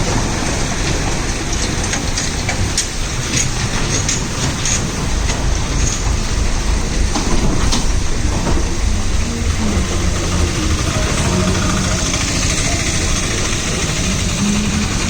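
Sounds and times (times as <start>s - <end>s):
lorry diesel engine rumbling: 0.0s - 15.0s
sharp ticks and rattles: 0.4s - 15.0s.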